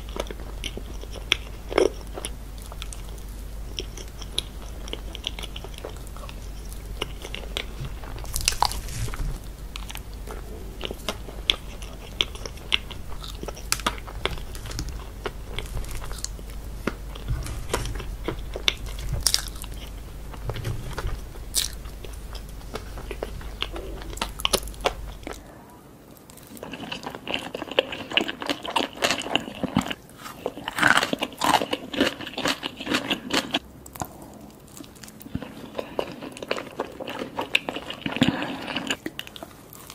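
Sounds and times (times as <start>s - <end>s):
close-miked chewing: 0.0s - 39.9s
low steady hum: 0.0s - 39.9s.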